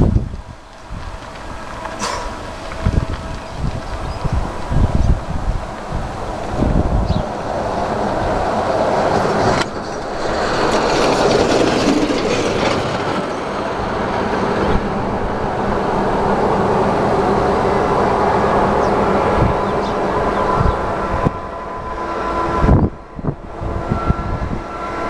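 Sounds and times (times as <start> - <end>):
distant freight train rumble: 0.0 - 25.0.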